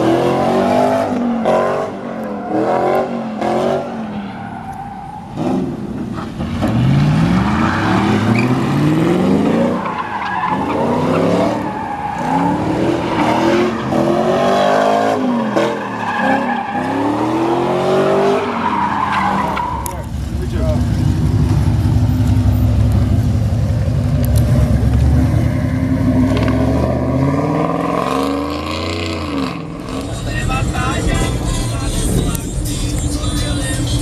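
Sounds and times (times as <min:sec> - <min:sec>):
truck engines revving: 0:00.0 - 0:34.0.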